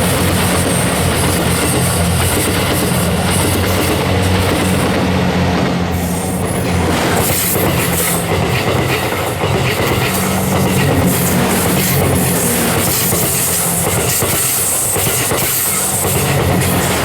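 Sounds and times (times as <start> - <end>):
diesel train engine hum: 0.0 - 17.0
wheels clattering over rails: 0.0 - 17.0.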